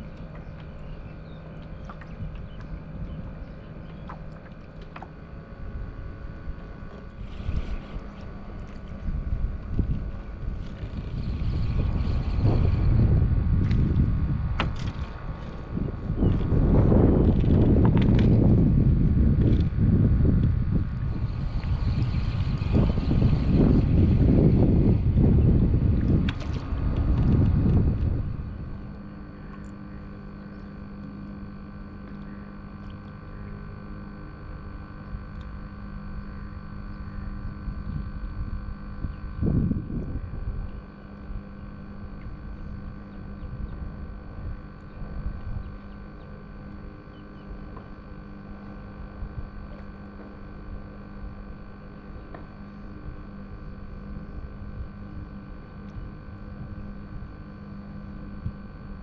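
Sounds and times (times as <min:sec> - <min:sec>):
faint low hum: 0:00.0 - 0:59.0
water around kayak: 0:00.0 - 0:59.0
wind rumbling on microphone: 0:00.0 - 0:59.0.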